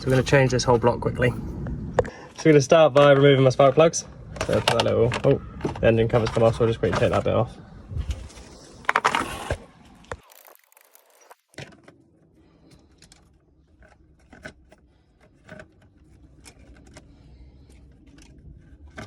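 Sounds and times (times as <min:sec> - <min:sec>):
faint clicks and handling noise: 0:02.0 - 0:07.4, 0:08.1 - 0:19.0.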